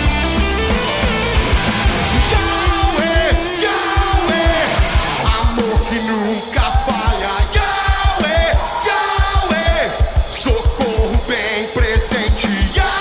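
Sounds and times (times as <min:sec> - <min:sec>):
steady drum beat: 0:00.0 - 0:13.0
worship song by band: 0:00.0 - 0:13.0.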